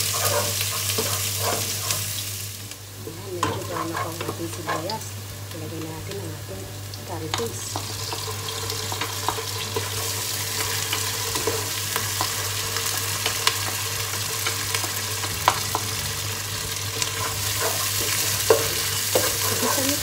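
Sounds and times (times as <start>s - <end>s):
paste sizzling in a pot: 0.0s - 20.0s.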